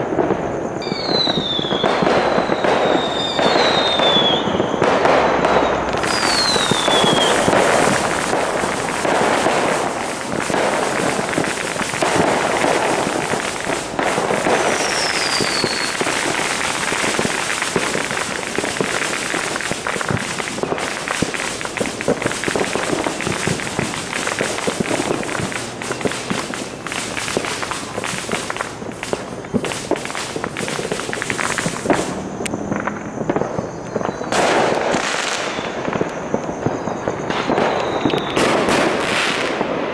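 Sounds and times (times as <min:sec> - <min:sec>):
fireworks crackling and popping: 0:00.0 - 0:39.9
rocket falling whistle: 0:00.0 - 0:39.9.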